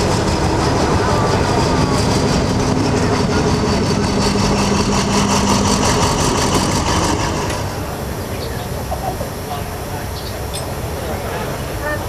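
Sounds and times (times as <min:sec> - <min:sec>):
diesel locomotive engine humming: 0:00.0 - 0:12.0.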